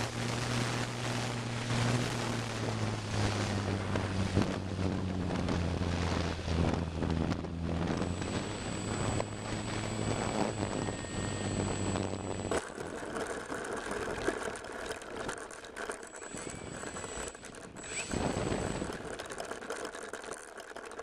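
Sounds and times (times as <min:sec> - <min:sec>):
wind on microphone: 0:00.0 - 0:15.4, 0:16.1 - 0:19.3
electric motor whining: 0:00.0 - 0:21.0
model plane rattling: 0:00.0 - 0:21.0.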